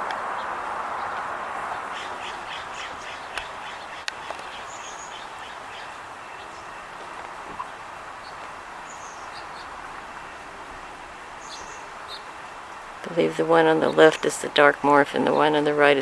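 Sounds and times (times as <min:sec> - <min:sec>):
background rush: 0:00.0 - 0:16.0
small birds chirping: 0:00.0 - 0:16.0.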